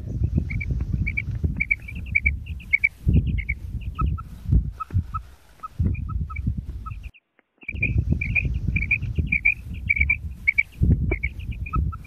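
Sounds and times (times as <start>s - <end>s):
low microphone rumble: 0.0s - 12.0s
quail chirping: 0.1s - 12.0s.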